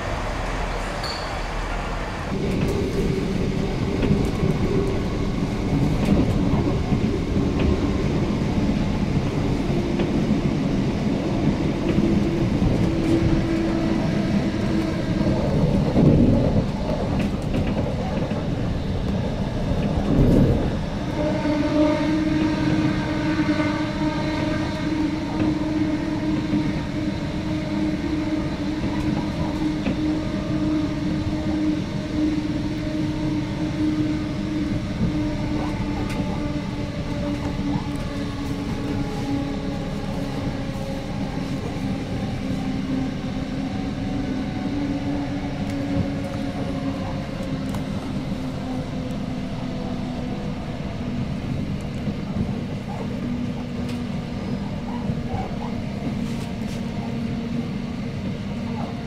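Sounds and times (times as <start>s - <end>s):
train engine drone: 0.0s - 59.0s.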